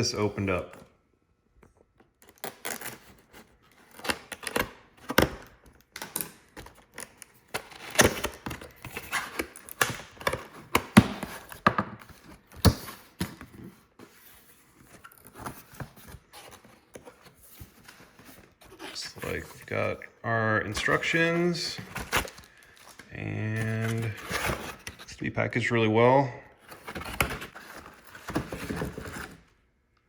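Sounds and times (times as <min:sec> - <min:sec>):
cardboard box being unpacked: 0:02.0 - 0:25.1, 0:26.6 - 0:29.6.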